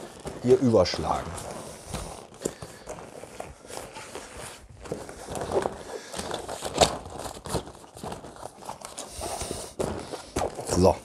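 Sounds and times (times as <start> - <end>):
vinyl rustling and crinkling: 0.0 - 11.0.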